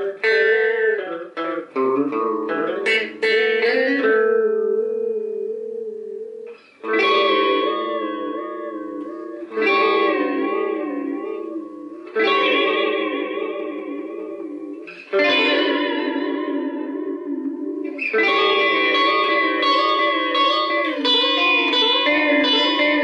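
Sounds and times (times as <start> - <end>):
electric guitar with delay: 0.0 - 23.0.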